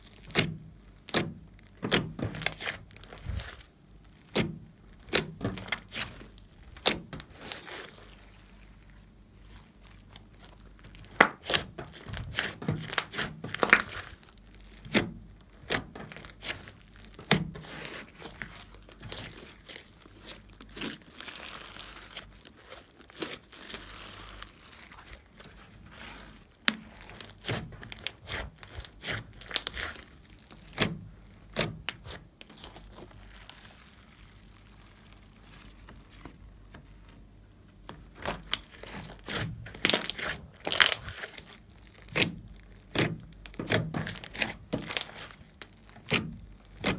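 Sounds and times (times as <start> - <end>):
hands squeezing sticky slime: 0.0 - 36.4, 38.1 - 46.9.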